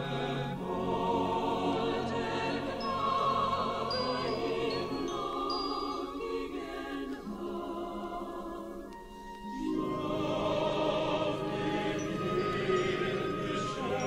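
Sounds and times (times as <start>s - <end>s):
choral operatic music: 0.0s - 14.0s.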